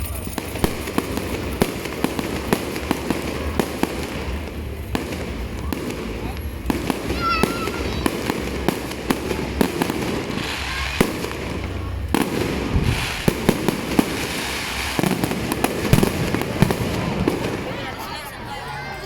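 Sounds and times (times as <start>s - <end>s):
fireworks bangs and pops: 0.0s - 18.2s
fireworks crackling: 0.0s - 18.9s.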